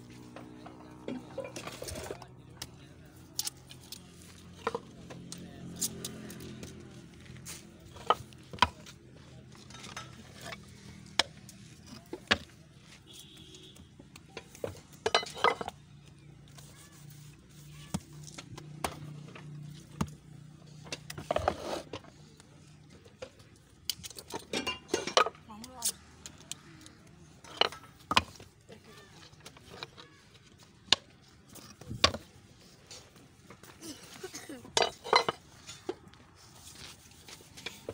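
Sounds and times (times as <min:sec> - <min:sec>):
clattering and scraping: 0:00.2 - 0:02.4, 0:03.4 - 0:12.9, 0:14.2 - 0:15.9, 0:16.5 - 0:26.4, 0:27.4 - 0:37.9.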